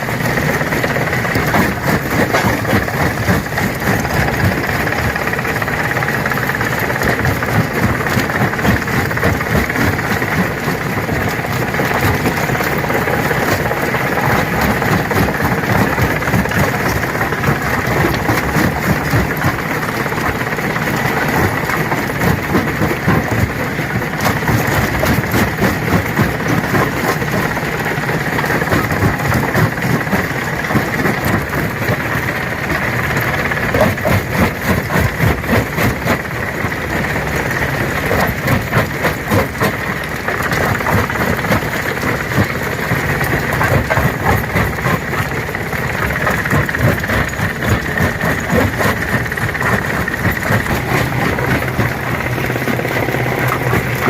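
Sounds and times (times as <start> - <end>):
stone crusher drone: 0.0 - 54.0
rocks cracking and rattling: 0.2 - 54.0.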